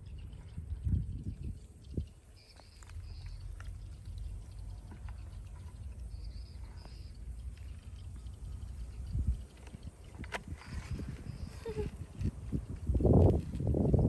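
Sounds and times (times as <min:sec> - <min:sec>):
bird chirping: 0:00.0 - 0:12.0
low rumble: 0:00.0 - 0:14.0.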